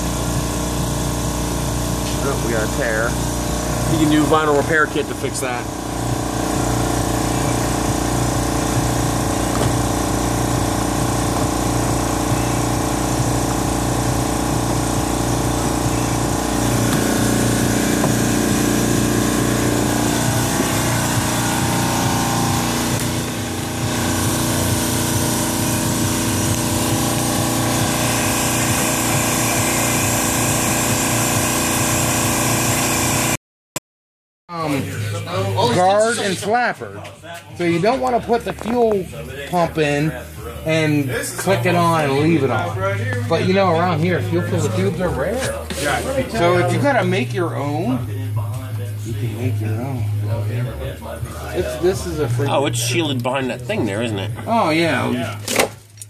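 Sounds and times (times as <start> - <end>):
motor droning: 0.0 - 33.4, 37.7 - 55.4.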